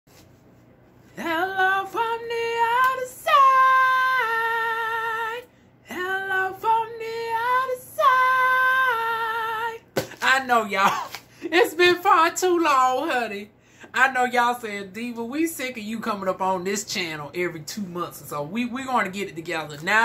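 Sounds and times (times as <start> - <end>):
woman singing unaccompanied: 1.1 - 20.0.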